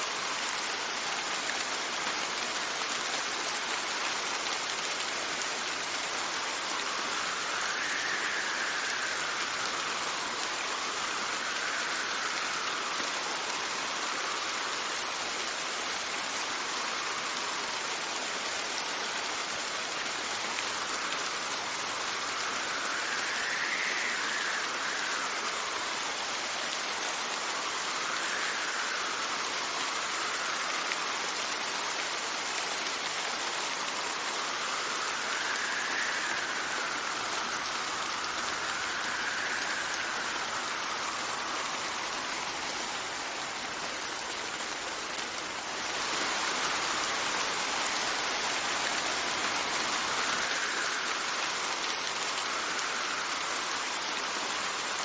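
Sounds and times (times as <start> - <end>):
rain hissing: 0.0 - 55.0
wind gusts: 0.1 - 55.0.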